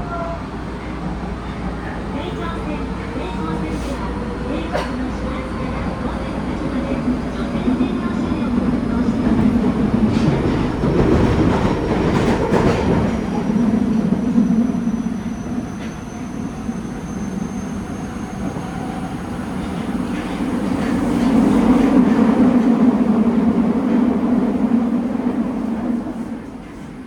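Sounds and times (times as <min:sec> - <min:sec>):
wheels rumbling on rail: 0:00.0 - 0:27.0.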